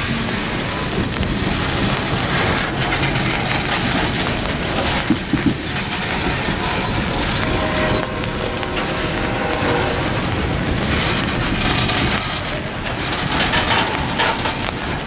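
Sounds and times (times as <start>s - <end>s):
freight train rumbling past: 0.0s - 15.0s
sharp clacks: 0.0s - 15.0s.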